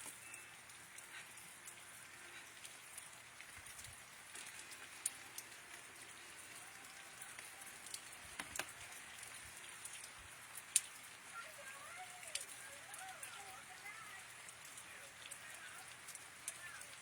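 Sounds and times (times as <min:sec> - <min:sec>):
drops ticking on surfaces: 0:00.0 - 0:17.0
steady rain falling: 0:00.0 - 0:17.0.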